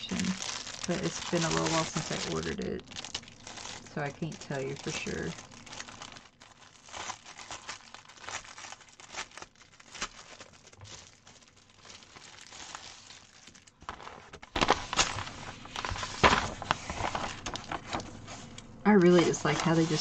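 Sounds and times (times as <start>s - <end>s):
plastic bag and paper crinkling: 0.0s - 20.0s.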